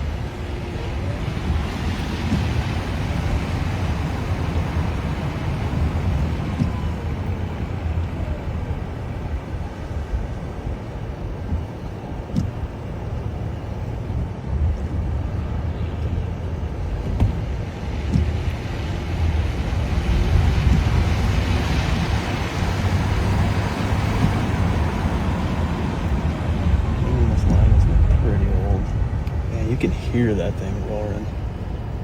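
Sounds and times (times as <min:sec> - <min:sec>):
low rumbling wind: 0:00.0 - 0:32.0
vehicle noise: 0:00.0 - 0:32.0.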